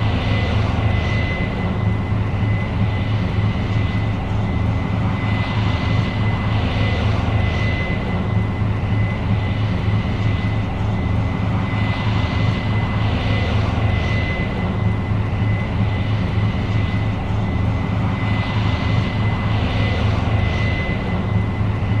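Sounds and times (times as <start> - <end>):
combine harvester engine drone: 0.0 - 22.0
high steady whine: 0.0 - 22.0.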